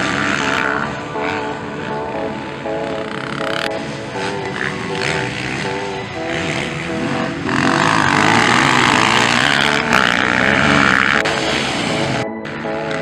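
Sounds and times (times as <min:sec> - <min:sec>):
dirt bike engines revving high: 0:00.0 - 0:13.0.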